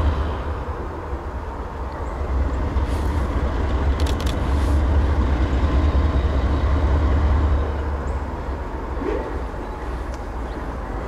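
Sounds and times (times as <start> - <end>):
diesel locomotive engines rumbling: 0.0 - 11.0.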